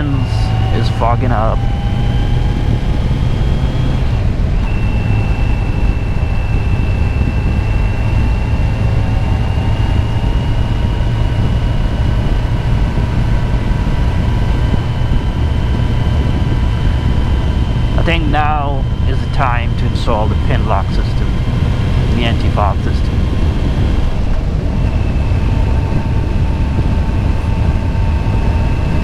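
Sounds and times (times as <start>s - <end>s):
motorcycle engine: 0.0s - 29.0s
wind rumble: 0.0s - 29.0s.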